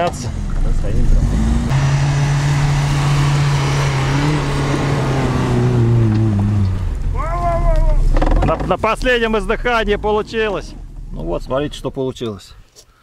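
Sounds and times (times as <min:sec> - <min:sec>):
car engine straining under load: 0:00.0 - 0:12.4.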